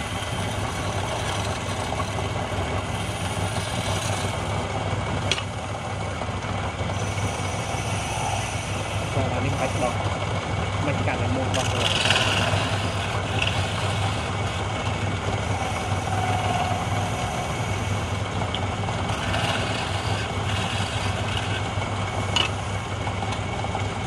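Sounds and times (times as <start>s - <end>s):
chisel scraping spinning wood: 0.0s - 24.0s
lathe motor hum: 0.0s - 24.0s.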